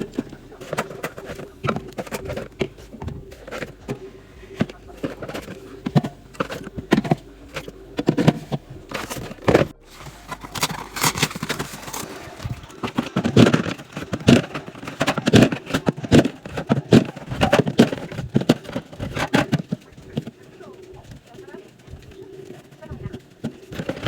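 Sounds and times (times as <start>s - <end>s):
cans and bottles clinking: 0.0s - 24.0s.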